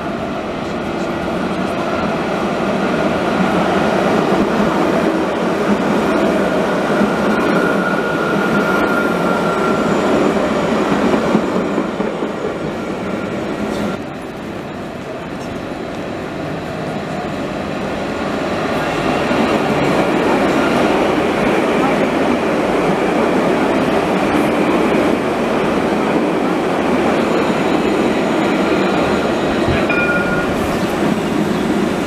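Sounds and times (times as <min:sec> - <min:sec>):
tram rail rumble: 0:00.0 - 0:32.0.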